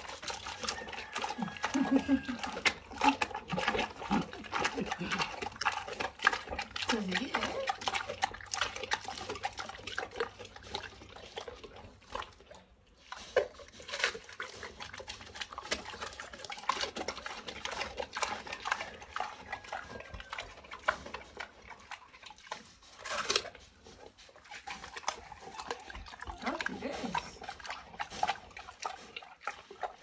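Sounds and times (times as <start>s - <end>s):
pig chewing wet smacking: 0.0s - 30.0s.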